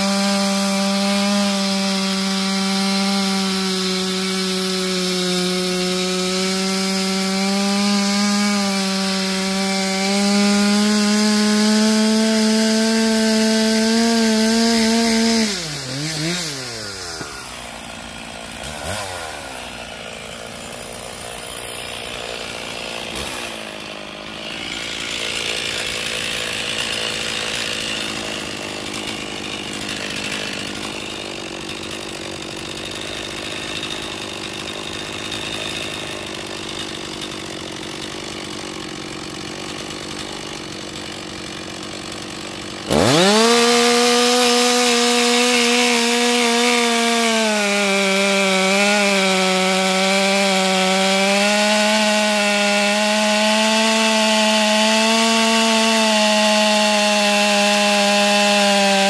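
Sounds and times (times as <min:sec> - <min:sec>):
chainsaw cutting into stump: 0:00.0 - 0:59.0
chainsaw idling: 0:00.0 - 0:59.0.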